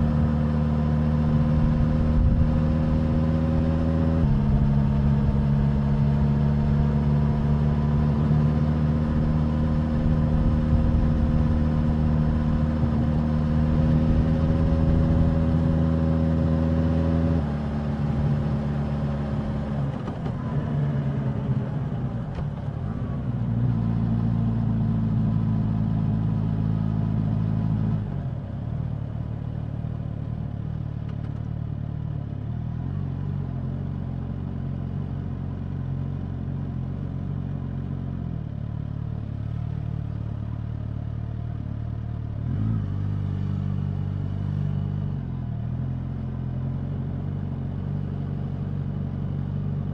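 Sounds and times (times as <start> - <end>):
motorcycle engine and exhaust: 0.0 - 49.9.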